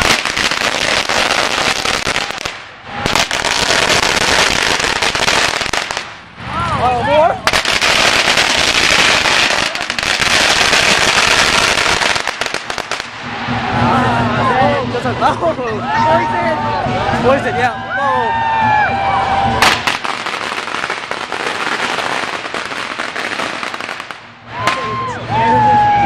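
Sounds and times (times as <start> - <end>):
firecrackers crackling: 0.0 - 15.5, 19.2 - 25.0.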